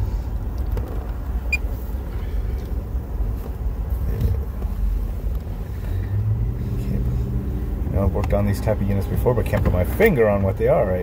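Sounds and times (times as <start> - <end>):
car idling heard from inside: 0.0 - 11.0.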